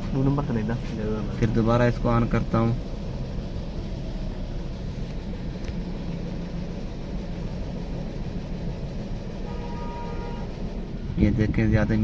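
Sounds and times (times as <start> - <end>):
car engine idling and misfiring: 0.0 - 12.0.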